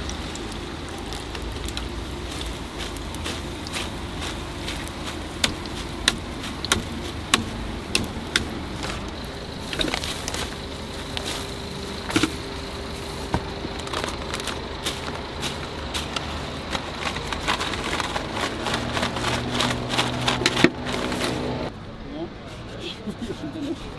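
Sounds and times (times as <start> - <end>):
low background rumble: 0.0 - 21.7.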